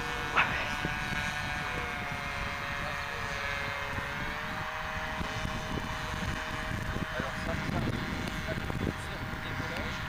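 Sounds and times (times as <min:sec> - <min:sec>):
low rumbling noise: 0:00.0 - 0:10.0
model airplane propeller drone: 0:00.0 - 0:10.0.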